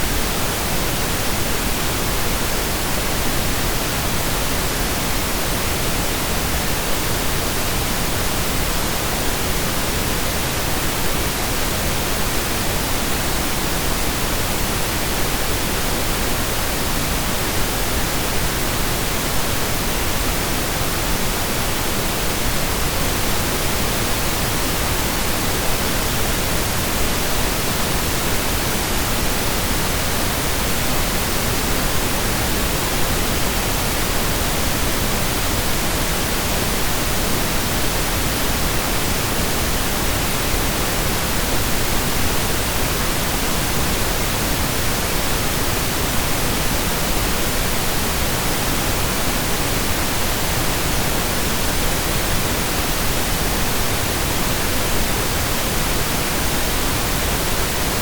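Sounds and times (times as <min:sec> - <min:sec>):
synthesized pink noise hiss: 0:00.0 - 0:58.0.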